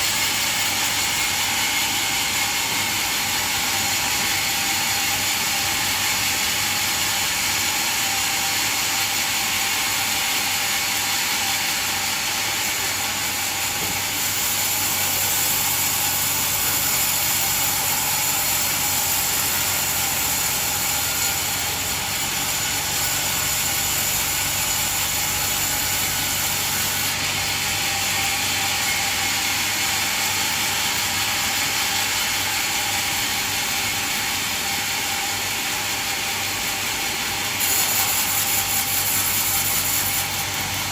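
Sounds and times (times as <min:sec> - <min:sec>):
sawmill machine running: 0:00.0 - 0:40.9.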